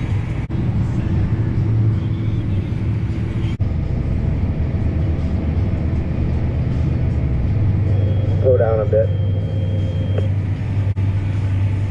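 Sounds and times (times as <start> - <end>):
tractor engine humming: 0.0 - 11.9.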